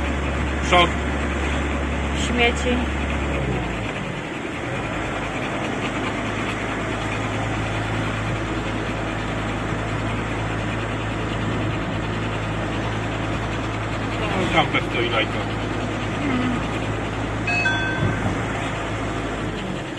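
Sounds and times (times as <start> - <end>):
engine humming: 0.0 - 19.9
road noise: 0.0 - 19.9.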